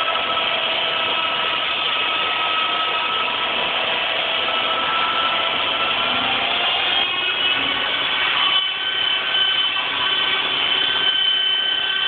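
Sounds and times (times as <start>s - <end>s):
rc helicopter motor whine: 0.0s - 12.0s
rotor blades whirring: 0.0s - 12.0s.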